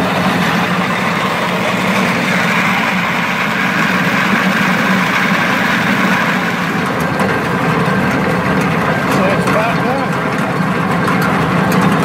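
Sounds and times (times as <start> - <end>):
feed grinder grinding corn: 0.0 - 12.0.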